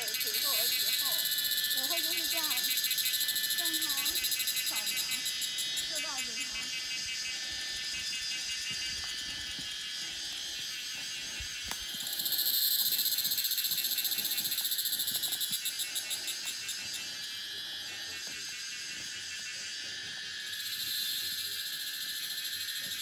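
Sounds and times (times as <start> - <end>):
insects trilling chorus: 0.0 - 23.0
loud high-pitched insect call: 0.0 - 23.0.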